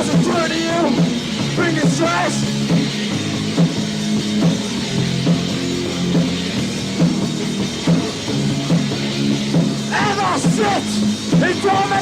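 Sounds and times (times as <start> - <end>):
distorted electric guitar: 0.0 - 12.0
punk rock band playing: 0.0 - 12.0
steady drum beat: 0.0 - 12.0.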